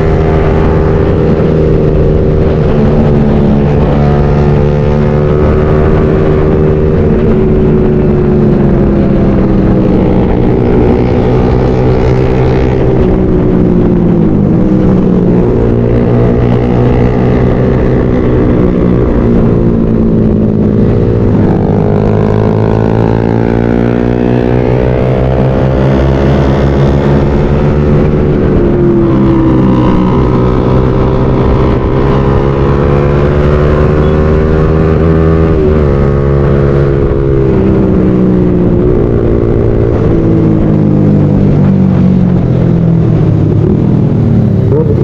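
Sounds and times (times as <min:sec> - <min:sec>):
motorcycle engines revving: 0:00.0 - 0:45.0
wind and road rumble: 0:00.0 - 0:45.0.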